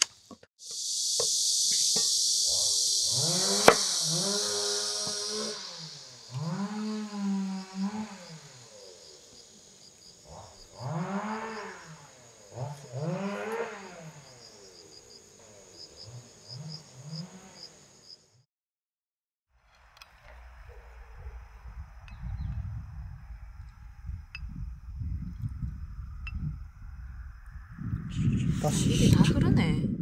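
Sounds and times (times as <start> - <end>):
faint insect chirping: 0.1 - 18.4, 19.8 - 28.6.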